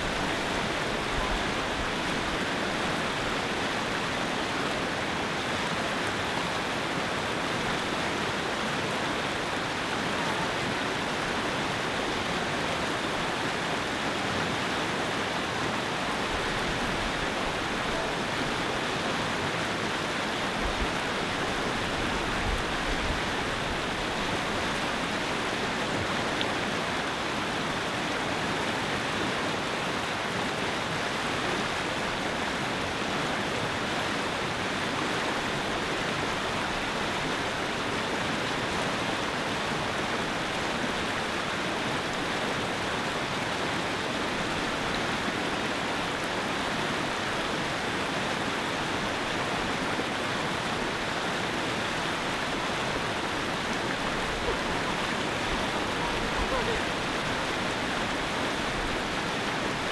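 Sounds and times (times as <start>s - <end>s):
river rapids rushing over rocks: 0.0s - 59.9s.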